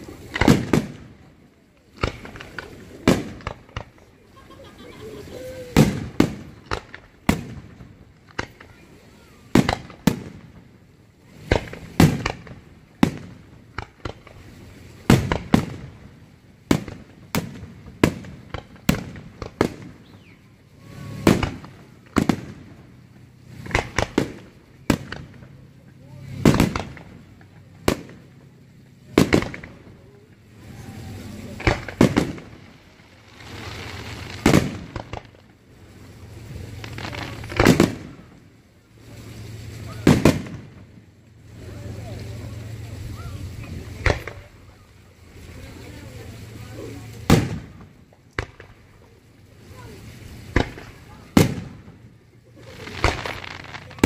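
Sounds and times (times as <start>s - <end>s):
firework shells bursting: 0.0s - 1.3s, 1.9s - 4.1s, 5.7s - 8.8s, 9.5s - 10.7s, 11.4s - 41.6s, 47.2s - 49.2s, 49.8s - 54.0s.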